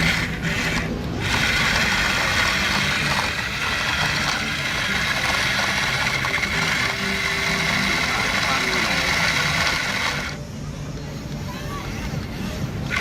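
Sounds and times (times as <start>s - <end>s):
toy motor and gears whirring: 0.0s - 10.4s, 12.8s - 13.0s.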